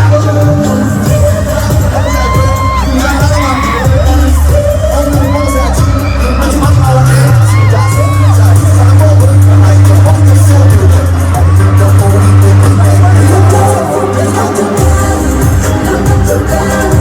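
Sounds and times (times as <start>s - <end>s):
crowd: 0.0s - 17.0s
pop concert music over pa: 0.0s - 17.0s.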